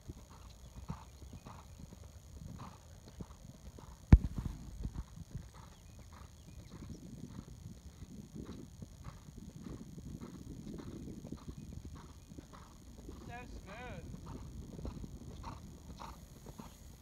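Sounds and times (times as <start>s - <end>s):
horse hoofbeats on sand: 0.0s - 17.0s.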